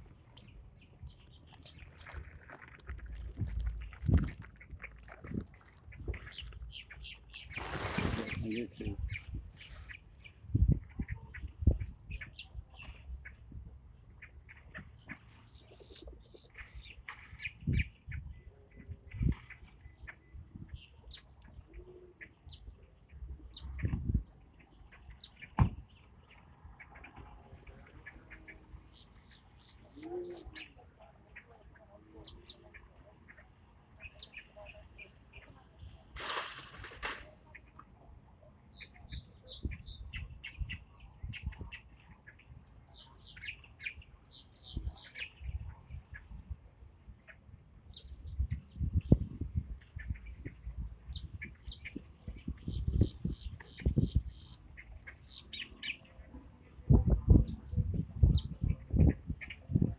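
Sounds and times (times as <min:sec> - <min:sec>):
birds chirping: 0:00.0 - 0:02.4, 0:03.0 - 0:36.2, 0:37.4 - 0:46.4, 0:47.2 - 0:59.9.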